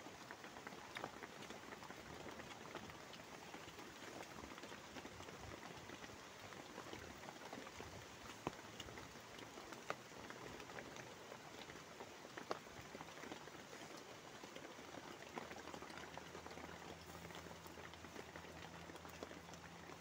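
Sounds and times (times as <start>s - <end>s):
heavy rain on a tarpaulin: 0.0s - 20.0s.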